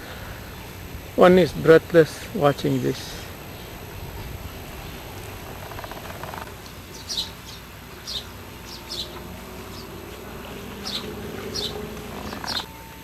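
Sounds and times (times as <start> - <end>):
bird chirping: 2.2 - 12.8.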